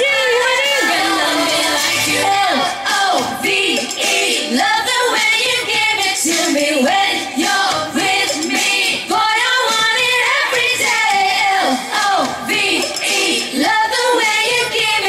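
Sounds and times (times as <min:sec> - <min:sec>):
women singing pop song: 0:00.0 - 0:15.0.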